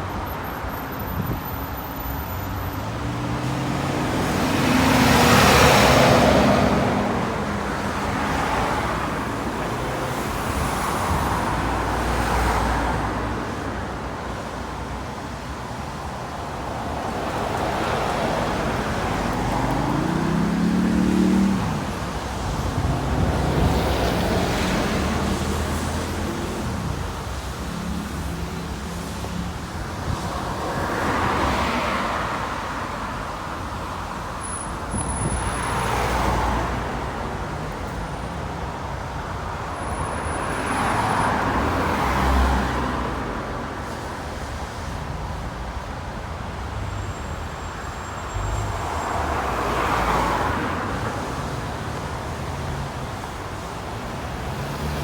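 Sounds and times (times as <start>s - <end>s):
low rumble of traffic: 0.0s - 55.0s
vehicles passing: 0.0s - 55.0s.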